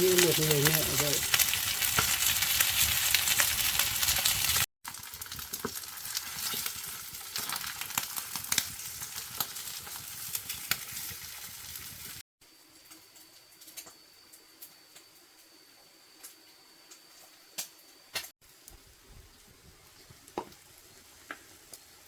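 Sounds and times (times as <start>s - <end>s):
cakes sizzling in hot oil: 0.0s - 22.0s.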